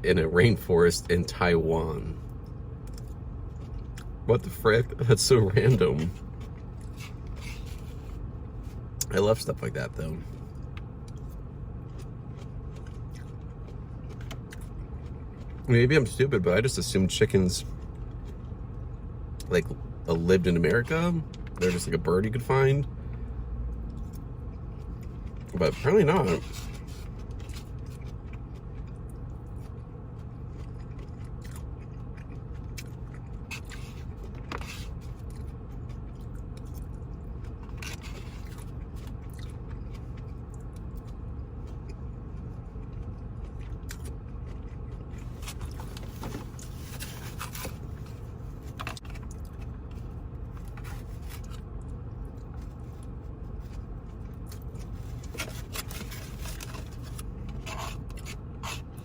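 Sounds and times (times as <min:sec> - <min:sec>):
low background hum: 0:00.0 - 0:59.0
person chewing and crunching: 0:02.2 - 0:09.1, 0:10.2 - 0:16.2, 0:23.9 - 0:59.0.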